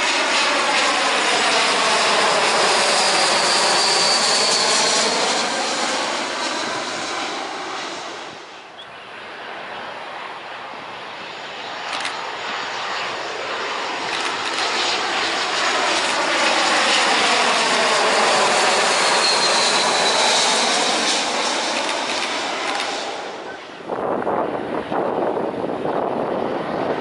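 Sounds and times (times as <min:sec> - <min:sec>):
faint high jet whine: 0:00.0 - 0:27.0
jet airliner passing overhead: 0:00.0 - 0:27.0.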